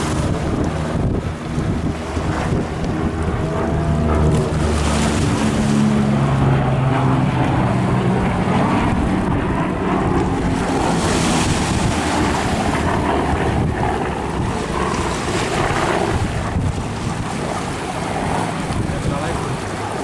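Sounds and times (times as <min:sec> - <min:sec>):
engine droning: 0:00.0 - 0:20.0
wind buffeting microphone: 0:00.0 - 0:20.0.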